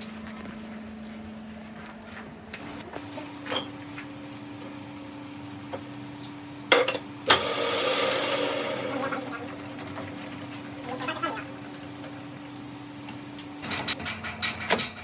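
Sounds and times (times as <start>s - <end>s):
workshop machine hum: 0.0s - 15.0s.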